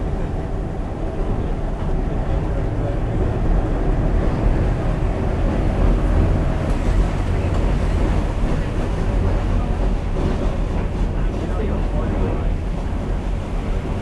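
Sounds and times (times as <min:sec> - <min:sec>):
streetcar rumbling along track: 0:00.0 - 0:14.0.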